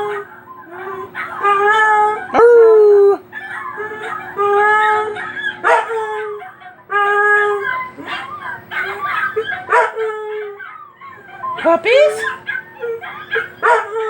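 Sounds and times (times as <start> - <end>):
dog howling: 0.0 - 14.0
dog yelping: 0.0 - 14.0.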